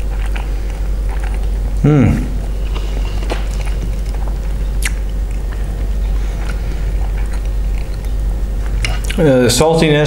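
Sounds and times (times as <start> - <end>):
person chewing: 0.0 - 9.2
steady low hum: 0.0 - 10.0.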